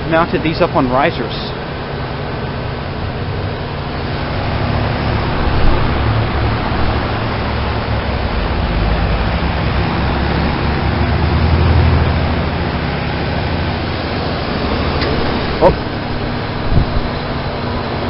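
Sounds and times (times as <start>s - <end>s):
heat pump fan rushing: 0.0s - 18.0s
low compressor hum: 0.0s - 18.0s.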